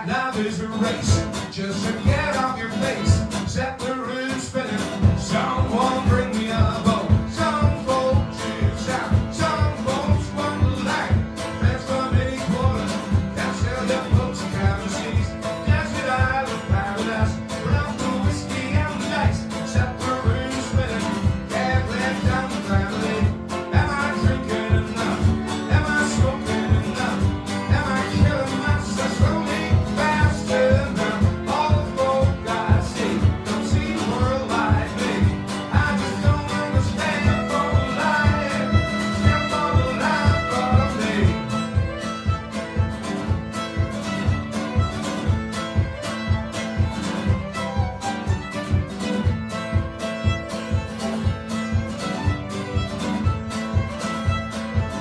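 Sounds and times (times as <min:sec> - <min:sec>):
acoustic guitar strumming: 0:00.0 - 0:55.0
fiddle melody: 0:05.4 - 0:55.0.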